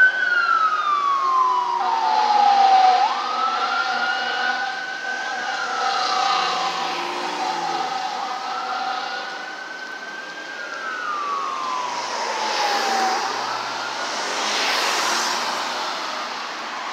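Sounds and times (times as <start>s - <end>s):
cars passing with tyre noise: 0.0s - 16.9s
fire engine wail siren: 0.0s - 16.9s.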